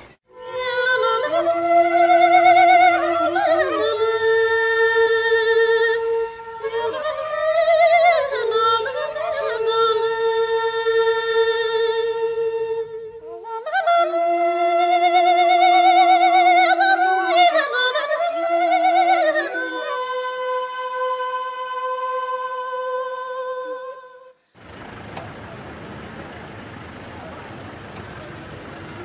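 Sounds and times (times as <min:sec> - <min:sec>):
woman singing with vibrato: 0:00.0 - 0:24.4.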